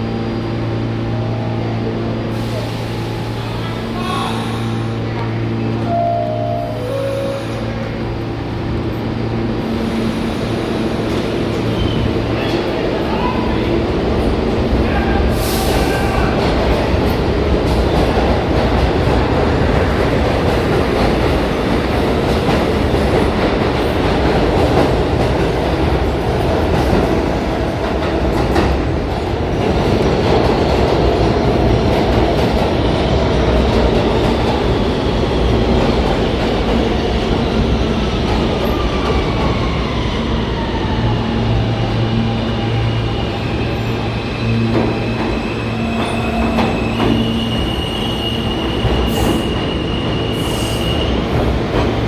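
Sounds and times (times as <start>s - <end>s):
subway train running: 0.0s - 52.0s.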